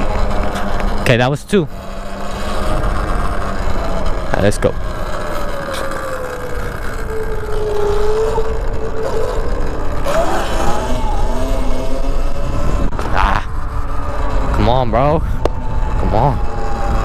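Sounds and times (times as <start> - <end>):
motorcycle engine running: 0.0 - 16.9
wind rumble on microphone: 0.0 - 17.0.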